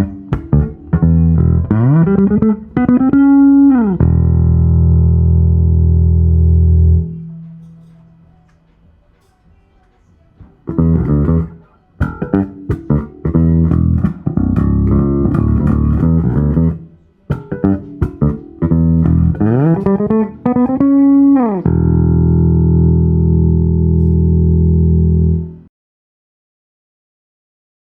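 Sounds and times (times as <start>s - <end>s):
electric bass playing: 0.0s - 7.7s, 10.6s - 25.7s.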